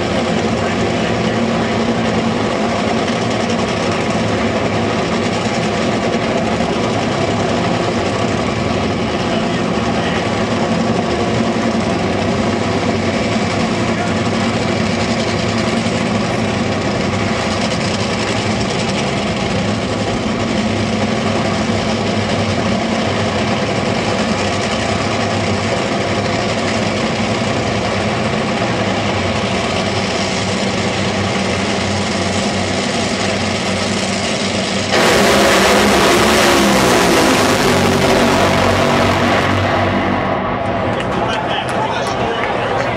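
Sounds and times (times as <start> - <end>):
dragster engines running: 0.0 - 42.9
dragsters launching at full throttle: 0.0 - 42.9.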